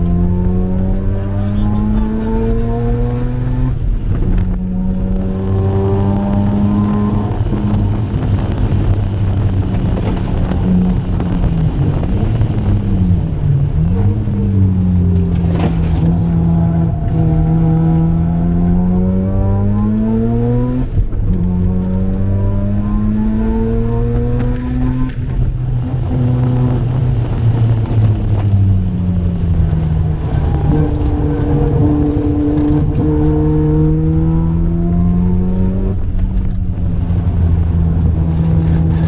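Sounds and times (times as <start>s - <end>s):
rotary engine accelerating: 0.0s - 39.0s.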